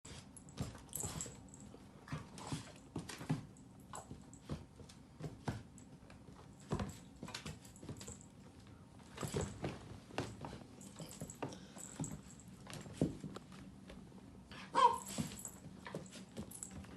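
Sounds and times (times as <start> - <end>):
puppy and cat play-fighting: 0.1 - 16.9.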